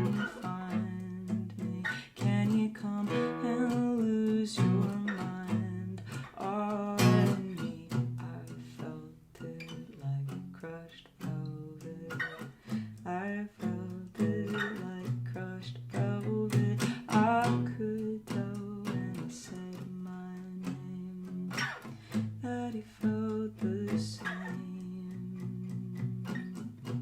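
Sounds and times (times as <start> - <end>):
woman singing: 0.0 - 21.6, 22.4 - 26.1
plucked guitar: 0.0 - 27.0.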